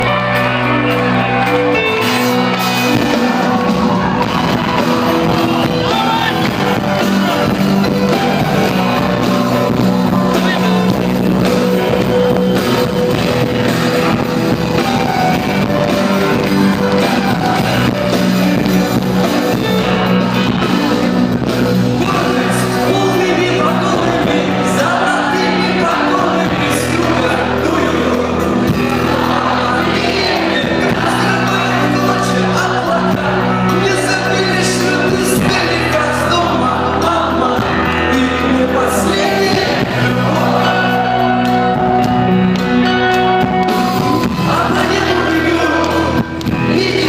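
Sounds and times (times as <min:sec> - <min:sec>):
rock song with guitar and singing: 0:00.0 - 0:47.0.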